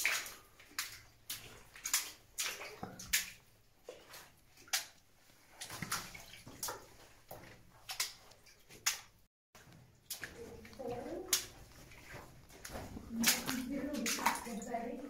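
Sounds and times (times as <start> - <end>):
footsteps splashing in water: 0.0 - 15.0.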